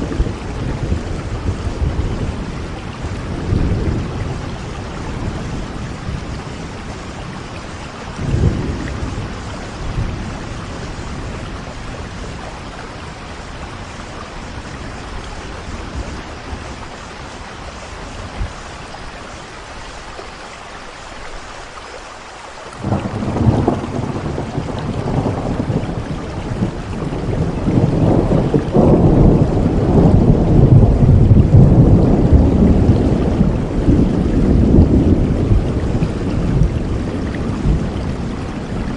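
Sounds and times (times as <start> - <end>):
thunder cracks and rumble: 0.0 - 17.0, 22.8 - 38.9
heavy rain falling: 0.0 - 38.9.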